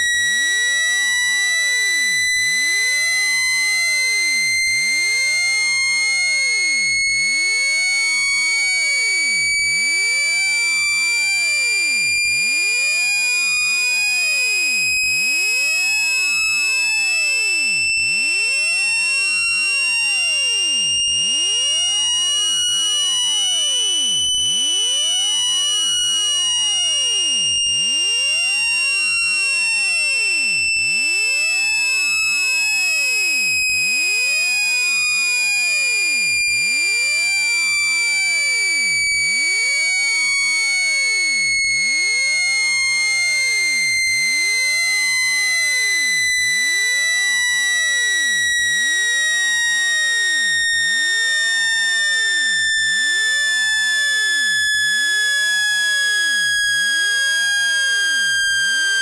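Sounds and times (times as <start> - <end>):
shrill buzzy electronic tone: 0.0 - 59.0.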